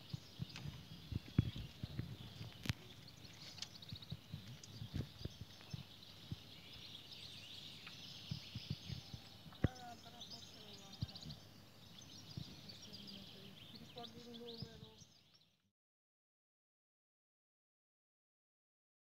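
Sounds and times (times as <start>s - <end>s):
birds chirping: 0.0s - 15.6s.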